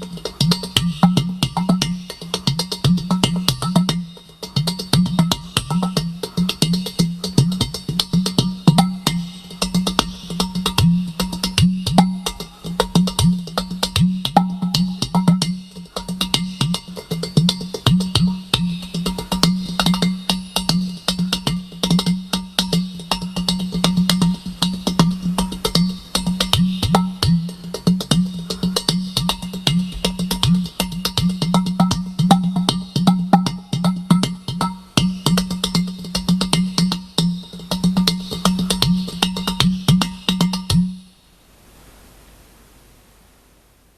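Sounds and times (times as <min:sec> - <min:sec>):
clay pot drum rhythm: 0:00.0 - 0:41.2
steady low hum: 0:00.0 - 0:43.9.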